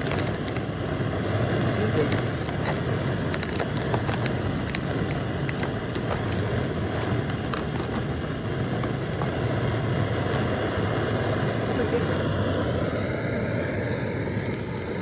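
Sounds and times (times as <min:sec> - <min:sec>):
gas stove burner hissing: 0:00.0 - 0:15.0.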